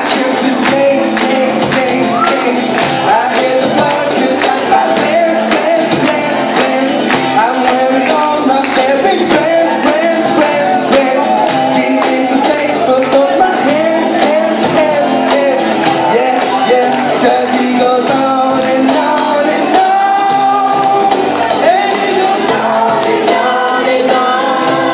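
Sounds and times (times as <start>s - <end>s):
cajon beating a rhythm: 0.0s - 24.9s
guitar: 0.0s - 24.9s
person singing into a microphone: 0.0s - 24.9s.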